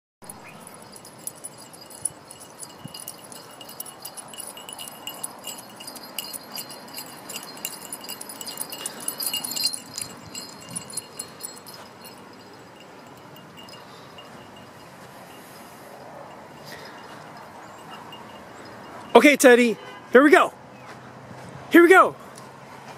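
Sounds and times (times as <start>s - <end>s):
dog collar tags jingling: 0.2s - 19.7s.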